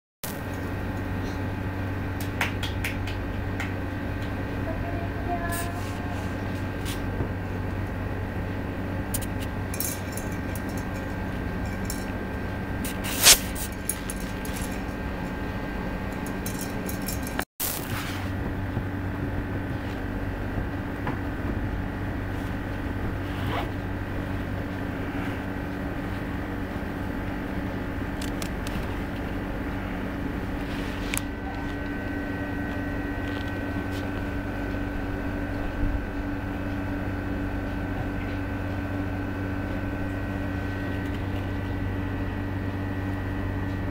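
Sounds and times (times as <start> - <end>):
steady low hum: 0.2 - 43.9.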